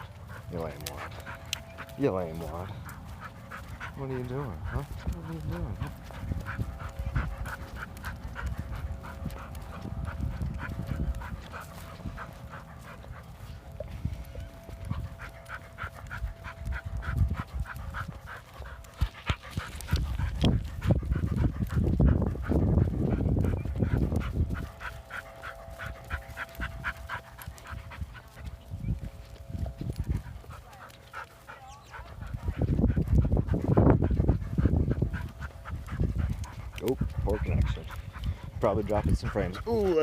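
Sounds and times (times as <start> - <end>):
dog panting: 0.0 - 40.0.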